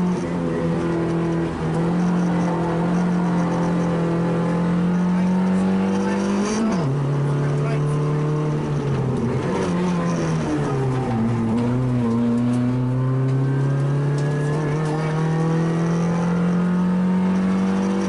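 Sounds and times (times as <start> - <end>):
small car engine from inside: 0.0 - 18.0.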